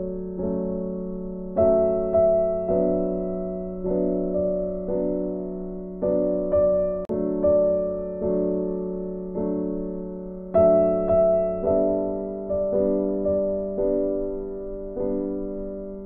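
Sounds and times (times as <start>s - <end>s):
slow gentle piano notes: 0.0s - 16.0s.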